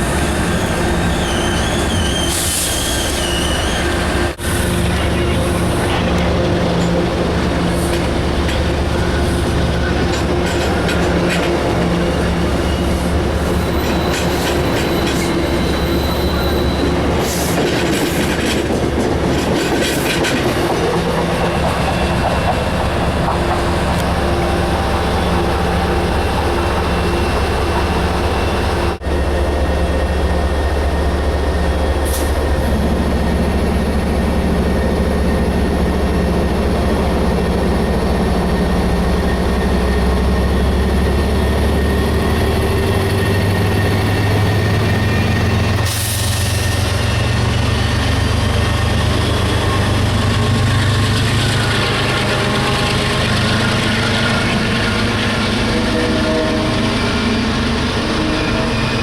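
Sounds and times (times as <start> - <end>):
train wheels rolling on rails: 0.0 - 29.0, 31.3 - 59.0
locomotive hum: 0.0 - 59.0.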